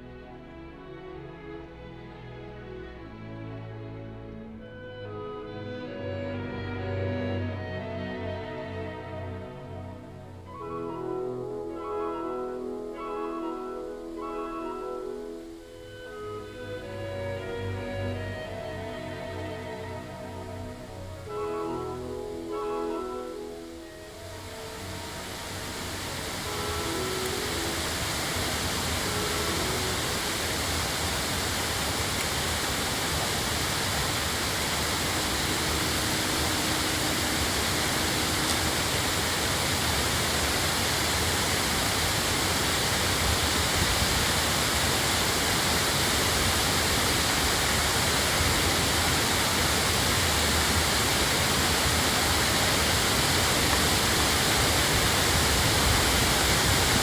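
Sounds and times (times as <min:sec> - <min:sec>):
waterfall roaring: 0:04.7 - 0:57.0.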